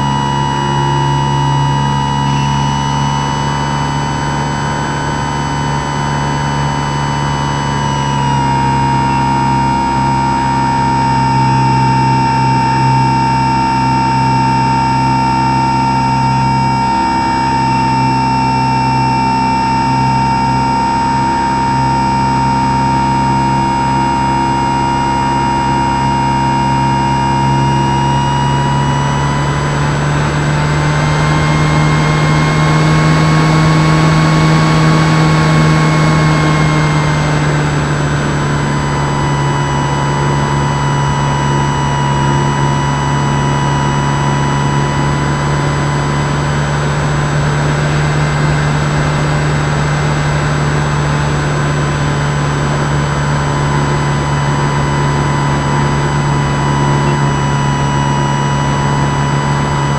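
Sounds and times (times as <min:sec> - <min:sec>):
propeller motor droning and whining: 0:00.0 - 0:59.9.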